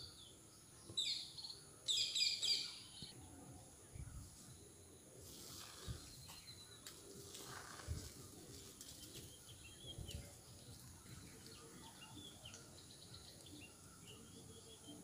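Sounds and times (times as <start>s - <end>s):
small birds chirping: 0.0s - 3.2s, 3.9s - 15.0s.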